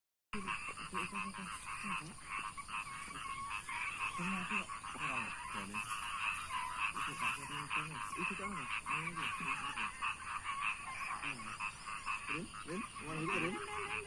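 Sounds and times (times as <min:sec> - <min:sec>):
faint voices: 0:00.4 - 0:14.0
pulsing animal calls chorus: 0:00.4 - 0:14.0.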